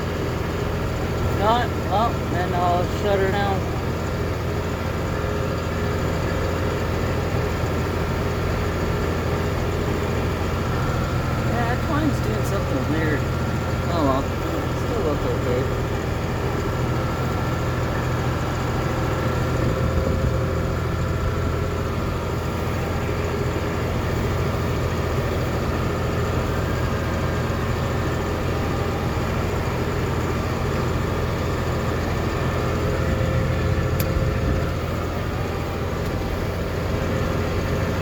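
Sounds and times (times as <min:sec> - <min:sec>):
tractor engine droning: 0:00.0 - 0:38.0.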